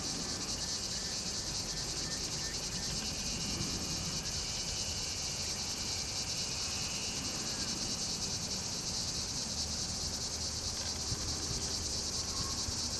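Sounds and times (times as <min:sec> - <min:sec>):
insect chorus: 0:00.0 - 0:12.9.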